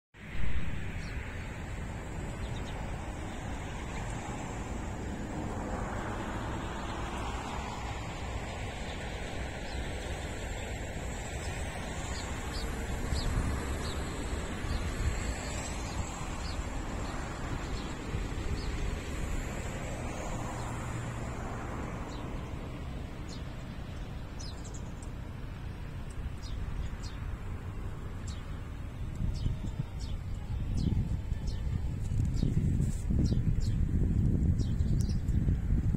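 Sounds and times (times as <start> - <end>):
wind blowing: 0.2 - 35.9
wind rumble on microphone: 0.2 - 35.9.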